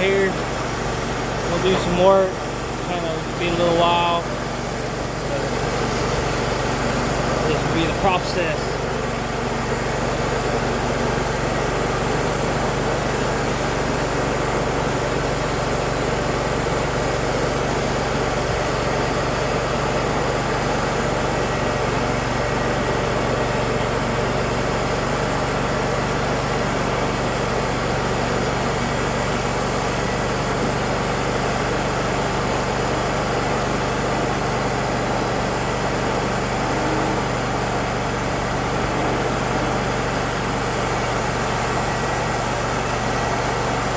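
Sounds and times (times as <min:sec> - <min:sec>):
bandsaw sawmill engine running: 0:00.0 - 0:43.9.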